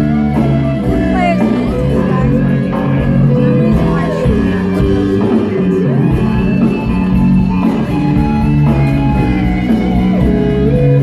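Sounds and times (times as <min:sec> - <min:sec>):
bass guitar: 0:00.0 - 0:11.0
electric guitar bending notes: 0:00.0 - 0:11.0.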